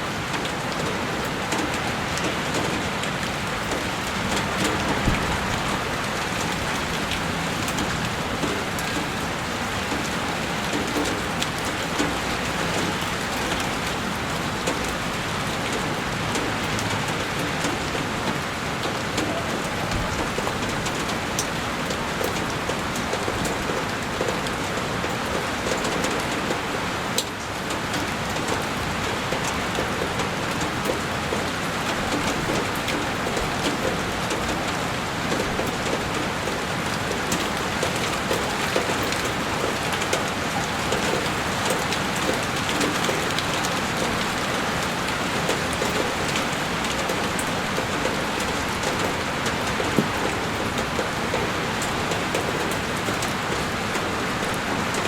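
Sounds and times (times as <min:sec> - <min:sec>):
heavy rain pattering on window: 0:00.0 - 0:55.0.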